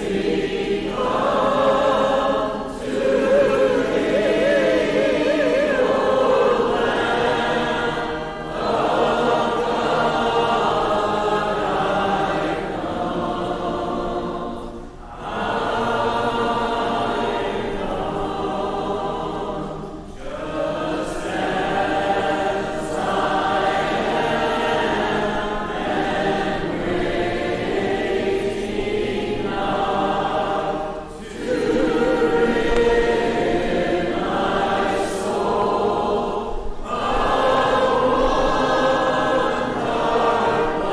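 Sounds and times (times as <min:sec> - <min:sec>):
congregation singing a hymn: 0:00.0 - 0:40.9.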